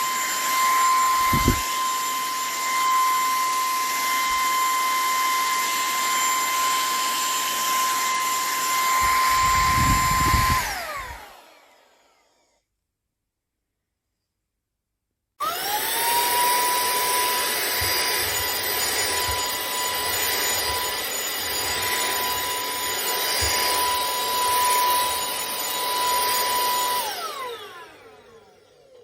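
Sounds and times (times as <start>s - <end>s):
handheld vacuum motor whine: 0.0s - 12.7s, 15.4s - 29.0s.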